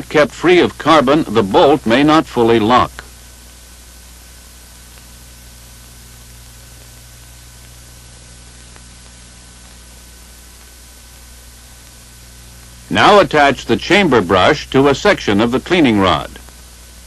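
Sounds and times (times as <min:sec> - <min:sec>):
film soundtrack hiss: 0:00.0 - 0:17.0
low electrical hum: 0:00.0 - 0:17.0.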